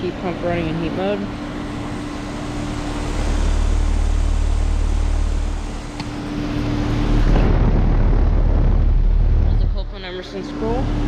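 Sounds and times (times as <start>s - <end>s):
condenser fan air rushing: 0.0s - 11.0s
low compressor hum: 0.0s - 11.0s.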